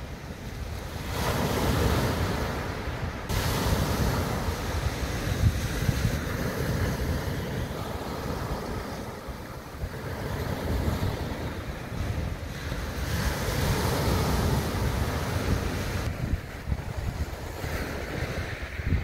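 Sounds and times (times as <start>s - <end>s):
sea waves breaking on beach: 0.0s - 19.0s
wind buffeting microphone: 0.0s - 19.0s.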